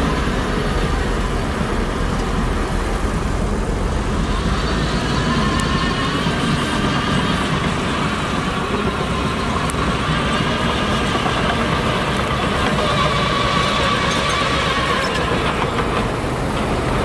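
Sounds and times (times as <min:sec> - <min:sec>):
diesel earthmoving machinery running: 0:00.0 - 0:17.0.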